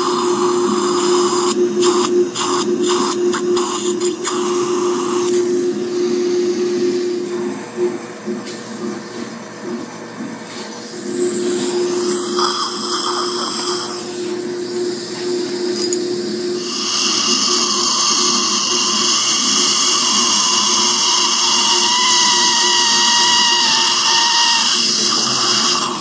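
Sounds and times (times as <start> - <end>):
dental drill whining: 0.0 - 7.5, 11.0 - 26.0.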